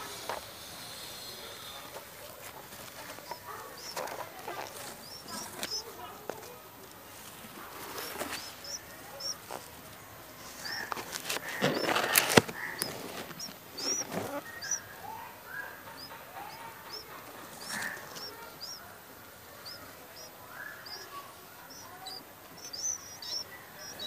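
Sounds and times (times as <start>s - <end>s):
nestlings high chirps: 0.0s - 24.0s.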